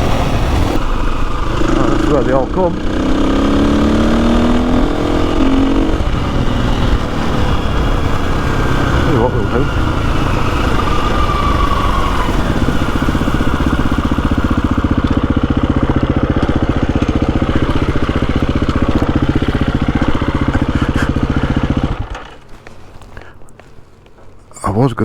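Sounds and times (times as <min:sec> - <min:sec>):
motorcycle engine running: 0:00.0 - 0:24.3.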